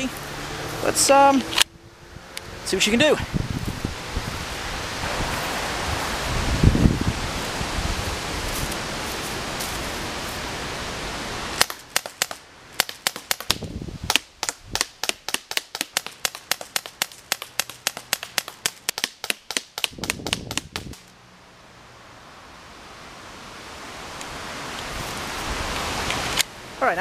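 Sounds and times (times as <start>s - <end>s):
outdoor rushing noise: 0.0s - 27.0s.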